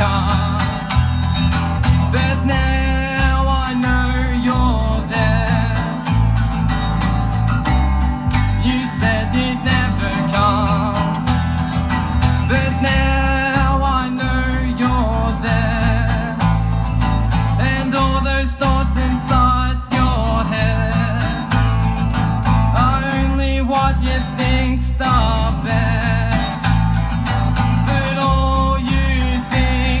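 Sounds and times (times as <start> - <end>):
live country band playing: 0.0 - 30.0.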